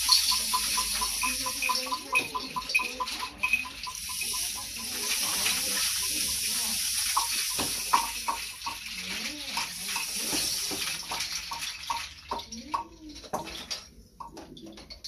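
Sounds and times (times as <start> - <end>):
rain sticks and hand shakers: 0.0 - 15.0.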